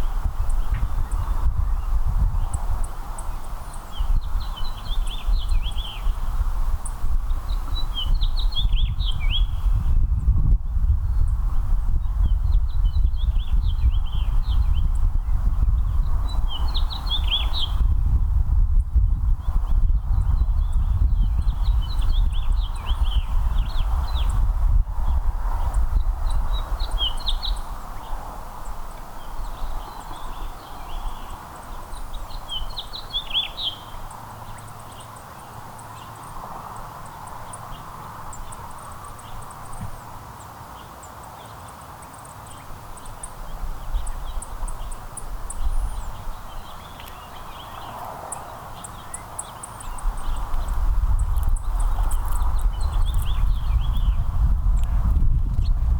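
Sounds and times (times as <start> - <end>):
songbirds chirping: 0.0 - 18.0, 18.8 - 55.9.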